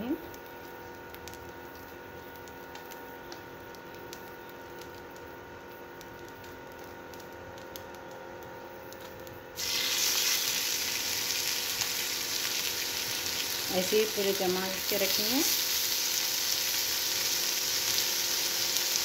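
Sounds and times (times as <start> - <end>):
meat sizzling in hot fat: 0.0 - 8.0, 8.8 - 19.0.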